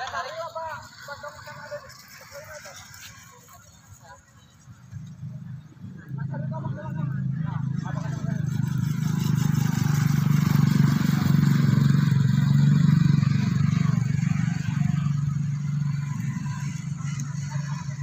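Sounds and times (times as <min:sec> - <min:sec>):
motorcycle engine passing: 0:00.0 - 0:18.0.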